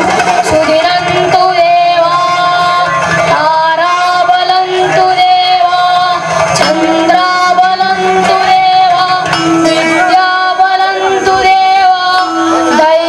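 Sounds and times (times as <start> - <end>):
person singing long notes: 0.0 - 13.0
sustained instrumental accompaniment: 0.0 - 13.0.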